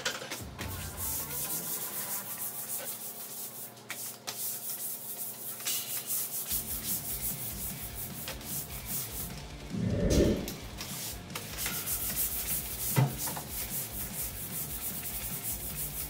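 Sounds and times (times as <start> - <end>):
broom scrubbing wet concrete: 0.8 - 16.0.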